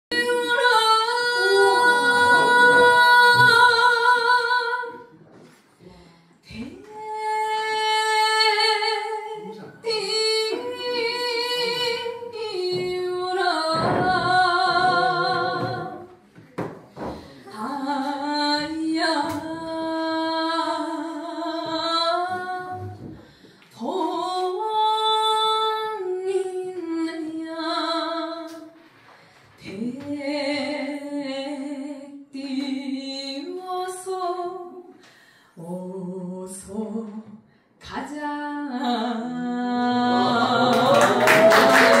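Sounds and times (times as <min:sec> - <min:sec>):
woman singing unaccompanied: 0:00.1 - 0:05.1, 0:06.5 - 0:16.1, 0:17.5 - 0:23.0, 0:23.8 - 0:28.7, 0:29.6 - 0:35.0, 0:35.6 - 0:42.0.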